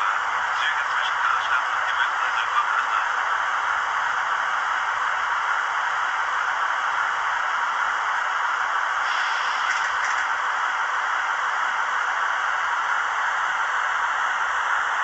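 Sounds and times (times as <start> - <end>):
steady hiss through small speaker: 0.0 - 15.0.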